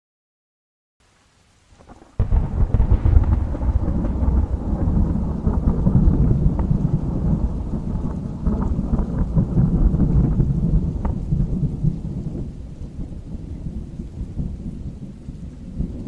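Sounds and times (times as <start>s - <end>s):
soft rain: 1.0s - 16.0s
thunder rumbling: 1.7s - 16.0s.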